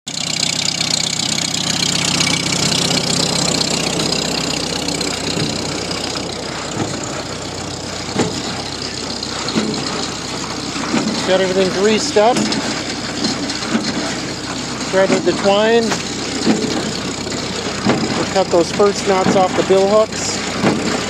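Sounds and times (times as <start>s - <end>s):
tractor engine drone: 0.0s - 21.0s
baler rattling: 0.1s - 21.0s
sharp mechanical knocks: 0.1s - 21.0s.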